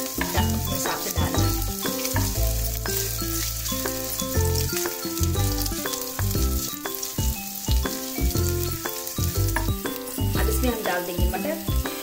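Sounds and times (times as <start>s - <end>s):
background music with bass: 0.0s - 12.0s
food sizzling in hot oil: 0.0s - 12.0s
wooden spatula stirring: 0.0s - 12.0s.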